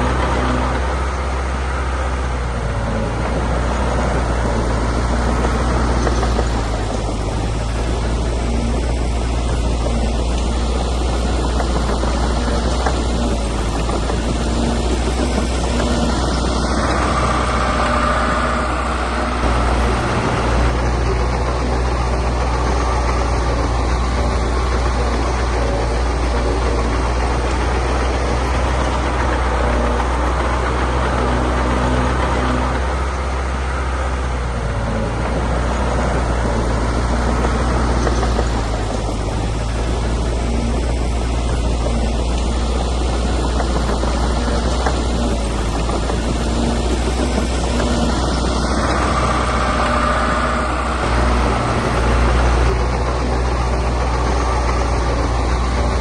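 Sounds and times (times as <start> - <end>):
heavy diesel machinery engine: 0.0 - 56.0.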